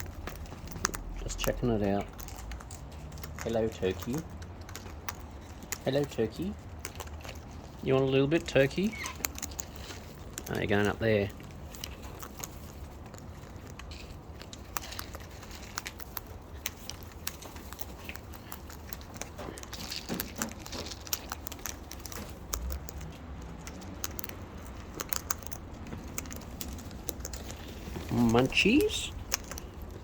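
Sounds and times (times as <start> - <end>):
birds pecking at food: 0.0 - 30.0.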